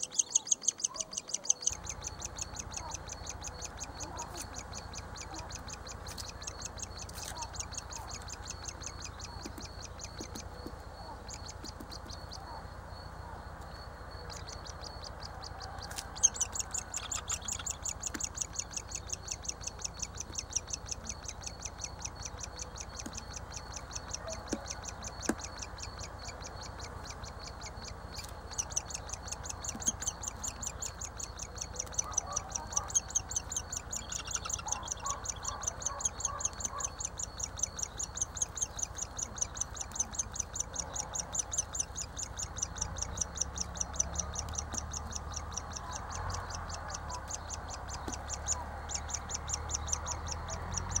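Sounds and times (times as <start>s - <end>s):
woodpecker nestling begging calls: 0.0s - 51.0s.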